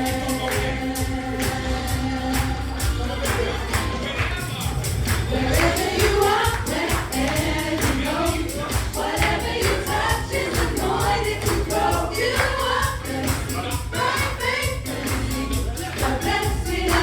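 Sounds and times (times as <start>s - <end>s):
choir singing gospel song: 0.0s - 17.0s
live band playing: 0.0s - 17.0s.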